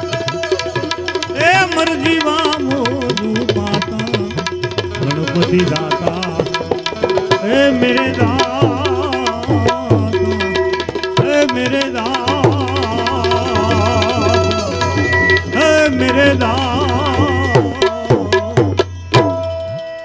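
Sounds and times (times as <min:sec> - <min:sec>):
tabla playing: 0:00.0 - 0:20.0
melody with vibrato: 0:03.9 - 0:20.0.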